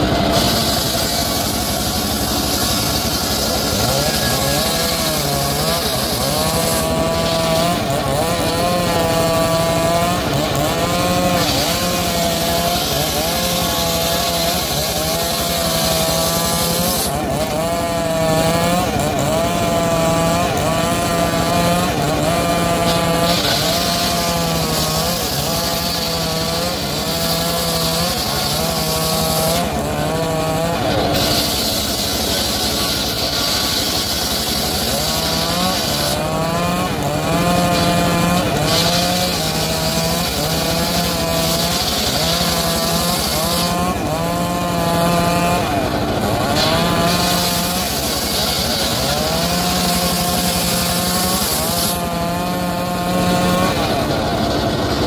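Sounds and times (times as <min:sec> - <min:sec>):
engine saw cutting timber: 0:00.0 - 0:55.0.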